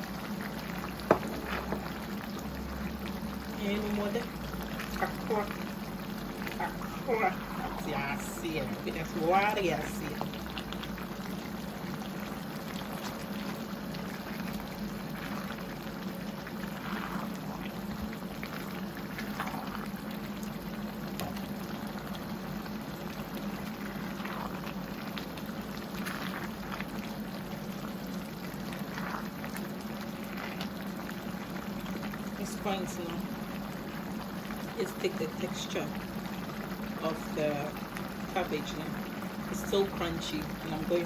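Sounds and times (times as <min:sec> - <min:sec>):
stew boiling and bubbling: 0:00.0 - 0:41.0.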